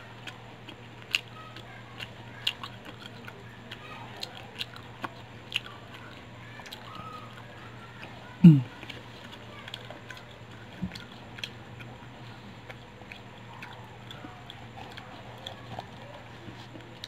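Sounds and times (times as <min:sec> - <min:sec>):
chewing crispy chicken: 0:00.0 - 0:17.0
low steady hum: 0:00.0 - 0:17.0.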